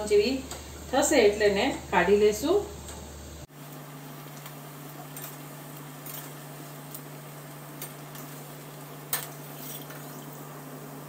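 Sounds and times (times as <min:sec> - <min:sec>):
deep-frying sizzle in oil: 0:00.0 - 0:11.0
steady low hum: 0:00.0 - 0:11.0.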